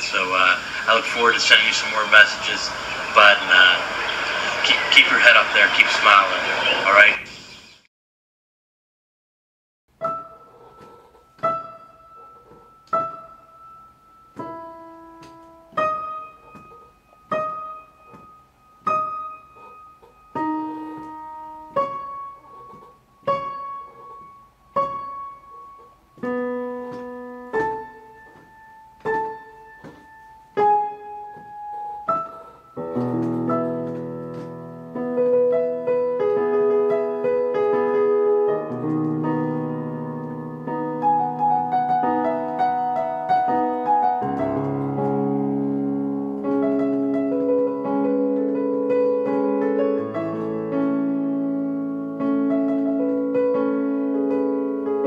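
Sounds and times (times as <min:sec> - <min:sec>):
slow piano music: 0:09.9 - 0:55.0.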